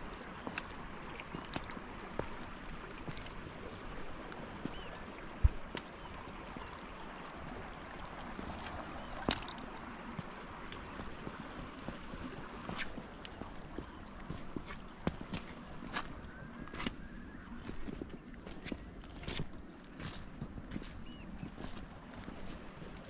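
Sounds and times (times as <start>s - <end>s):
seawater lapping at shoreline: 0.0s - 23.0s.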